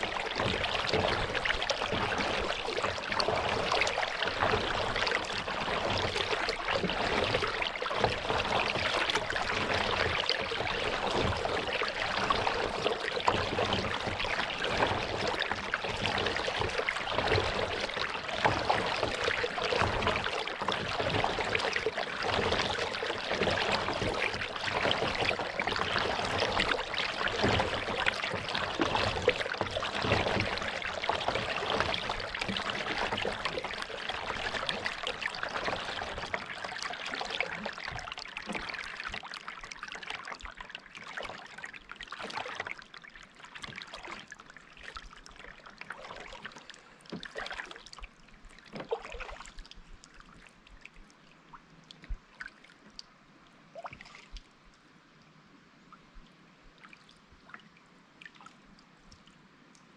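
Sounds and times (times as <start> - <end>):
water splashing around kayak: 0.0 - 55.5, 56.2 - 59.9.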